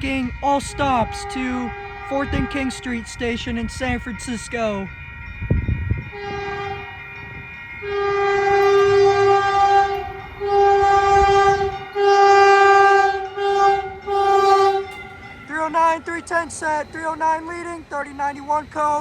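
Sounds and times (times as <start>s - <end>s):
train horn blasts: 0.0s - 4.8s, 6.0s - 17.6s
low train rumble: 0.0s - 19.0s.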